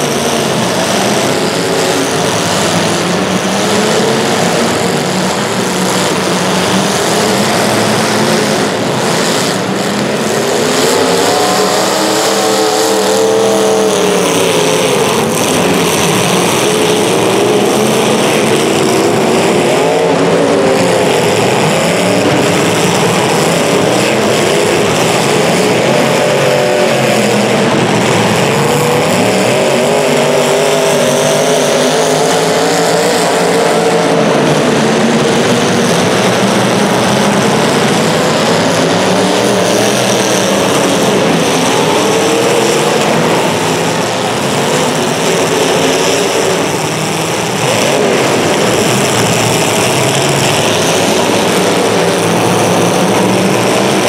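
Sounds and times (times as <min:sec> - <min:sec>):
small racing engines revving: 0:00.0 - 0:54.0.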